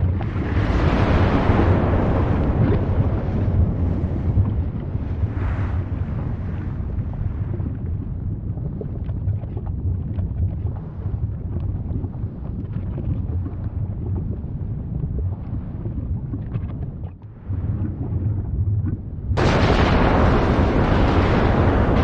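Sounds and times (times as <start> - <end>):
volcanic eruption rumbling: 0.0 - 14.2, 17.4 - 22.0
faint crackles: 0.0 - 22.0.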